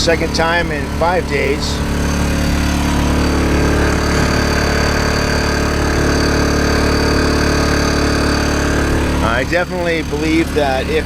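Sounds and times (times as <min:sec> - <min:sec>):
portable generator running: 0:00.0 - 0:11.0.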